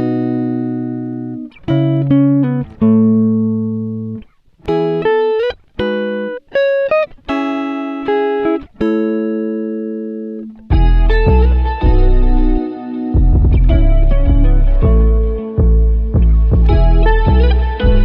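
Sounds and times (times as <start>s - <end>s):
guitar chords ringing: 0.0s - 18.0s.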